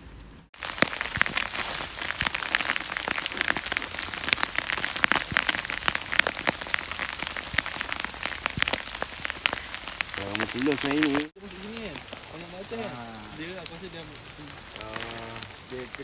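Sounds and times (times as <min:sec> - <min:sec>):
heavy rain on plastic cover: 0:00.0 - 0:16.0.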